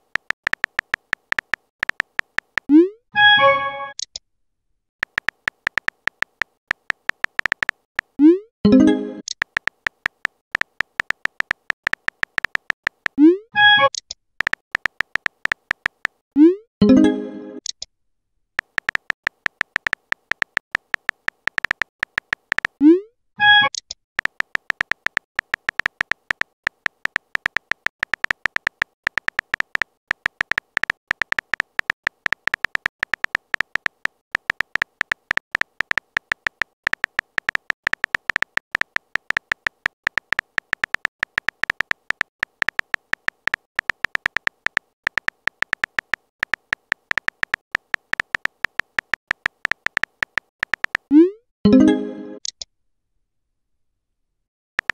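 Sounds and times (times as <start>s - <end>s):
typing clicking beeps: 0.0s - 4.1s, 5.0s - 17.8s, 18.6s - 52.6s.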